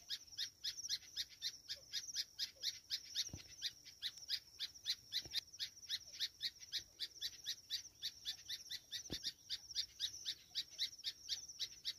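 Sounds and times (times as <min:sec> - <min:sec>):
bird calling in high chirps: 0:00.0 - 0:11.9.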